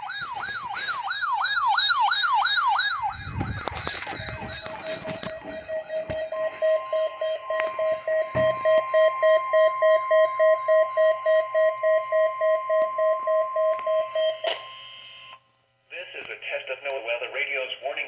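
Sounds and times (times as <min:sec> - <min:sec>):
receiver alert beeping: 0:00.0 - 0:15.4
steady warning alarm tone: 0:00.0 - 0:15.4.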